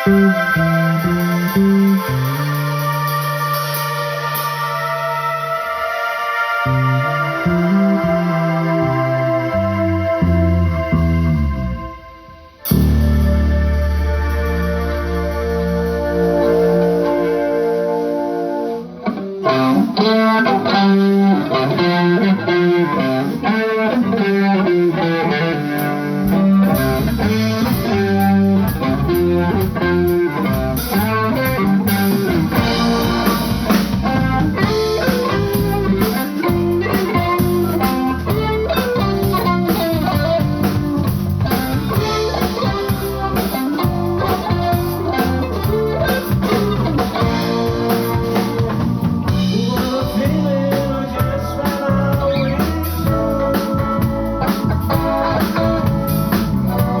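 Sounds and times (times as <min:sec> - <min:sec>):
bass and drums: 0:00.0 - 0:57.0
electric guitar: 0:00.0 - 0:57.0.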